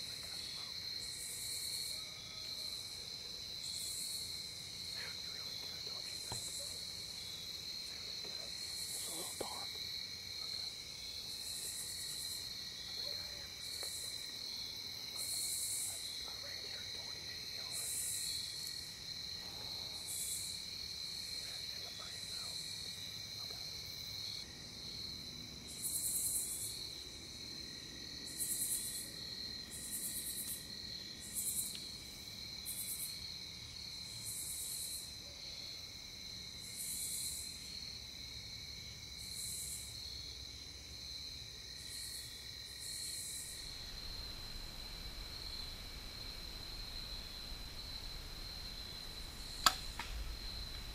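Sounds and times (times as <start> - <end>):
crickets trilling: 0.0 - 50.9
insects raspy bursts: 0.0 - 50.9.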